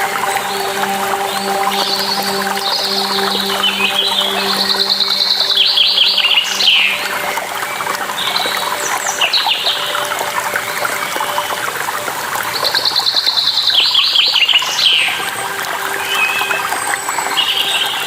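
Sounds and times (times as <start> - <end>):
songbird singing: 0.0 - 18.0
waterfall rushing: 0.0 - 18.0.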